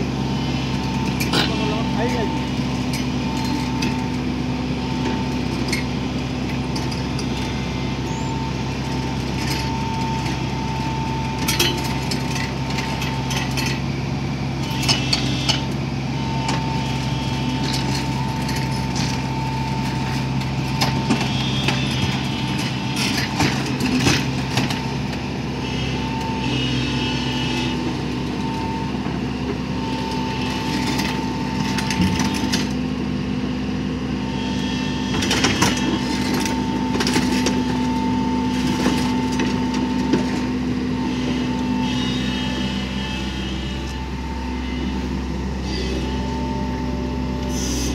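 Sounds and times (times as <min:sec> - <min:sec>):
diesel machine running: 0:00.0 - 0:47.9
machine whine: 0:00.0 - 0:47.9
metallic clanks and squeaks: 0:00.6 - 0:04.3, 0:04.9 - 0:13.9, 0:14.6 - 0:32.8, 0:34.4 - 0:47.9.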